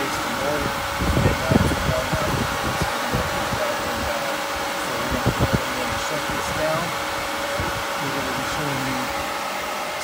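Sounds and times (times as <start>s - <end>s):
motor whirring hum: 0.0s - 10.0s.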